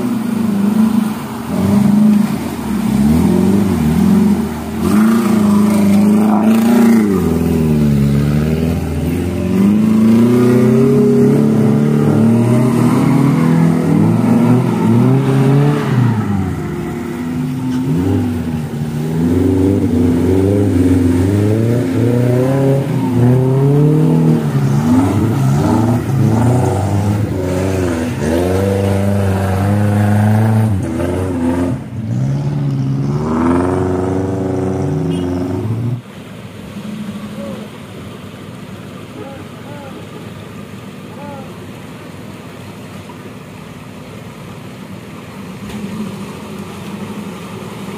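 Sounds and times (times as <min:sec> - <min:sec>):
off-road engine revving: 0:00.0 - 0:47.9.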